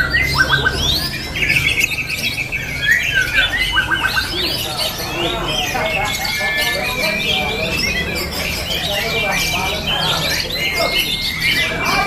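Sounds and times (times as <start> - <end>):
bird singing whistles and trills: 0.0 - 12.0.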